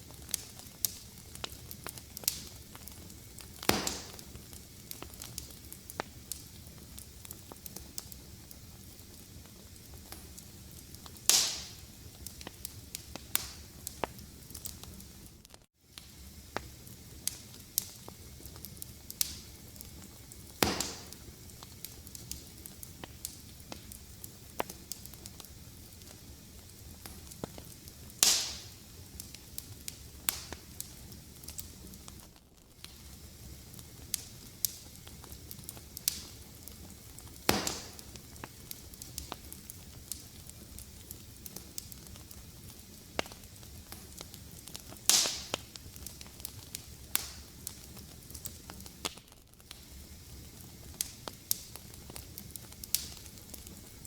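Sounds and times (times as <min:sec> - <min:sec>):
fire popping: 0:00.0 - 0:54.0
fireplace fire crackling: 0:00.0 - 0:54.0.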